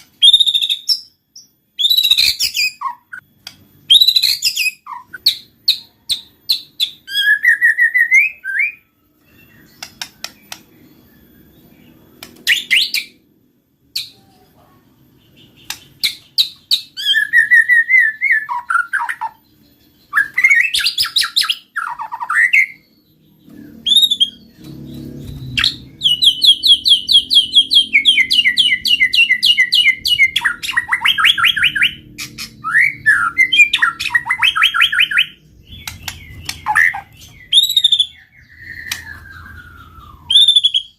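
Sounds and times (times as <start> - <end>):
canary singing: 0.0 - 40.9
songbird singing: 0.0 - 40.9.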